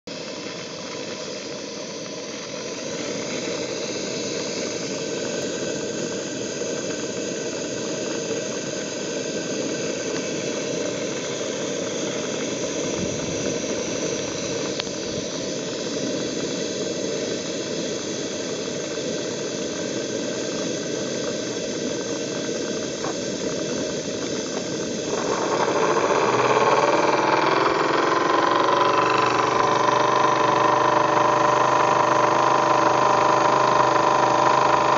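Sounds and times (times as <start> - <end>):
steady hum: 0.1 - 34.9
steam boiler hissing: 0.1 - 34.9
model steam engine running: 1.0 - 34.9.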